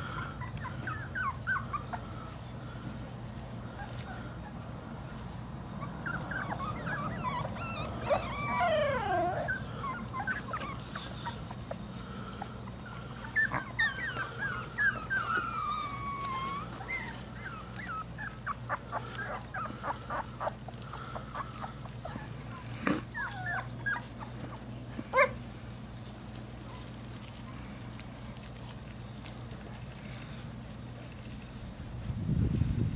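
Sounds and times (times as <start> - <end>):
puppies whining and whimpering: 0.0 - 2.6, 3.6 - 30.2.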